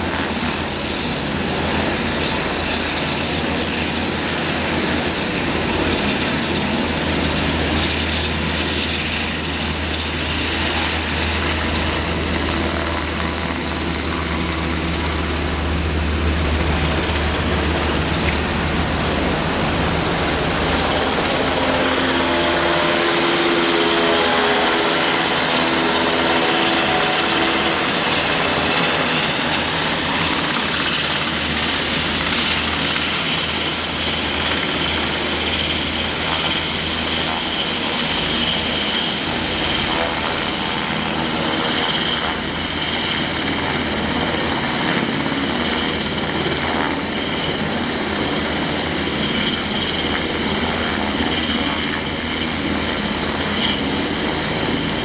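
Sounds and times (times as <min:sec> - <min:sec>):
helicopter hovering overhead: 0:00.0 - 0:55.0.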